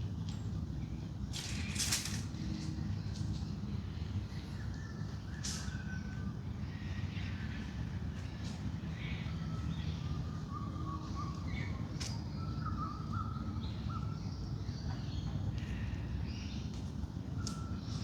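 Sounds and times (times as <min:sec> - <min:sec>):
birds calling and whistling: 0:00.4 - 0:18.0.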